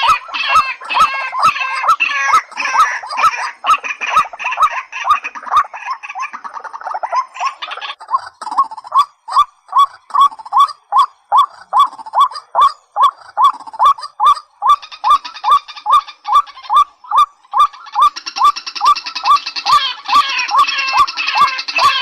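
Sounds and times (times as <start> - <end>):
waterhen calling kwak notes: 0.0 - 22.0.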